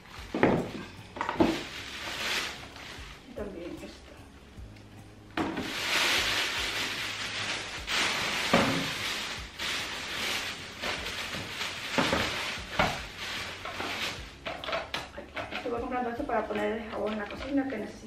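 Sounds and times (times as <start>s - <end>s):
plastic bags rustling: 0.0s - 4.1s, 5.4s - 17.7s.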